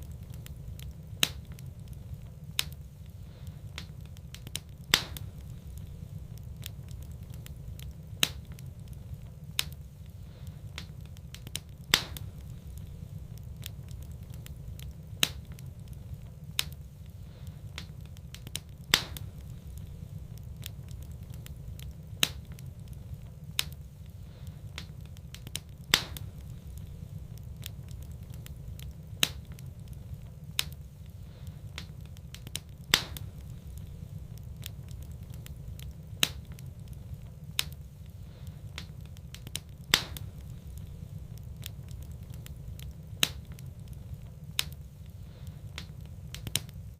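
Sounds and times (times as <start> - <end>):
fire crackling in fireplace: 0.0 - 46.9.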